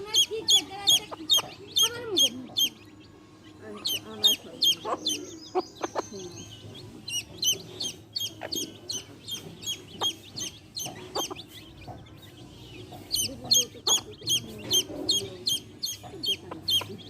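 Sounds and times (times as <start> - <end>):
chicks peeping: 0.0 - 17.0
hen clucking: 0.0 - 17.0.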